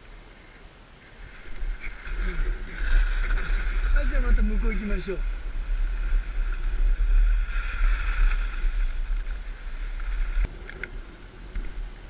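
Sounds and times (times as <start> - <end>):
skis sliding over snow: 0.0 - 12.0
wind buffeting microphone: 1.1 - 12.0.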